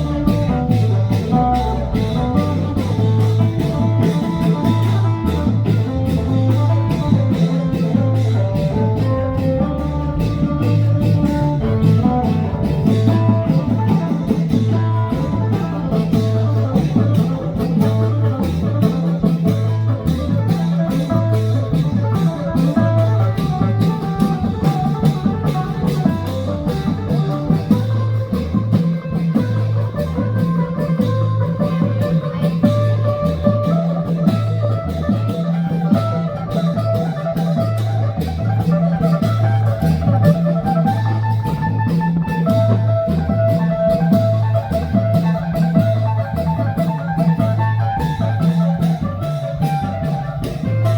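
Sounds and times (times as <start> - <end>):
live band music: 0.0 - 50.9
plucked string melody: 0.0 - 50.9.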